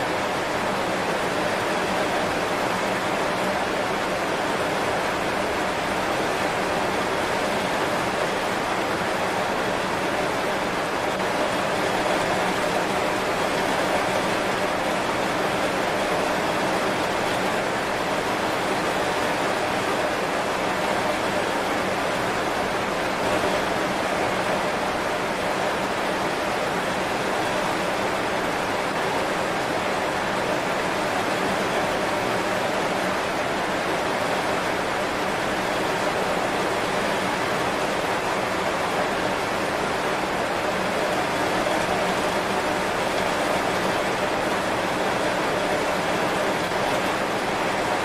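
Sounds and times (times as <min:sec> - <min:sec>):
heavy rain on leaves: 0:00.0 - 0:48.0.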